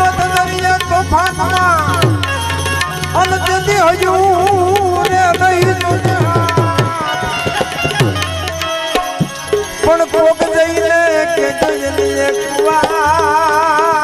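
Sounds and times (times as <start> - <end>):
devotional melody: 0.0 - 14.0
tabla playing: 0.0 - 14.0.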